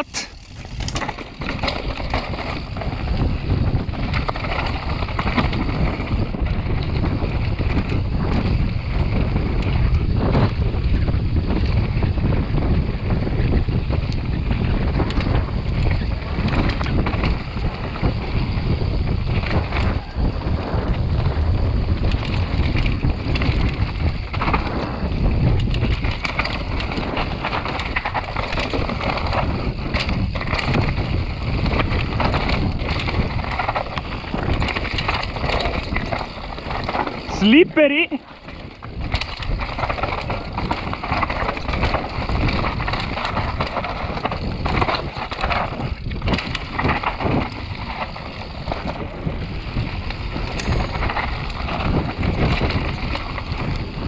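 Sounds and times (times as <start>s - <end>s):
tyre noise: 0.0s - 8.8s, 15.2s - 54.0s
bike rattling and knocking: 0.0s - 54.0s
wind buffeting microphone: 0.0s - 54.0s.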